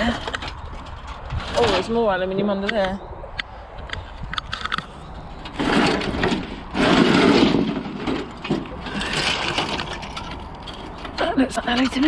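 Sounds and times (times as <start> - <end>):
scrap scraping and rustling: 0.0 - 2.5, 4.0 - 12.0.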